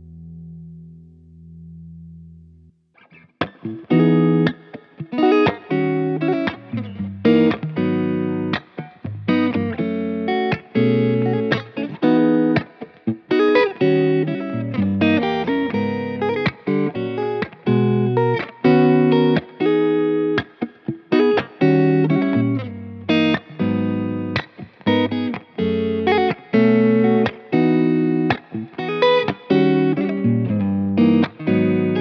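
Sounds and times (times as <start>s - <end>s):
electric guitar chords and riffs: 0.0s - 2.2s, 3.0s - 32.0s.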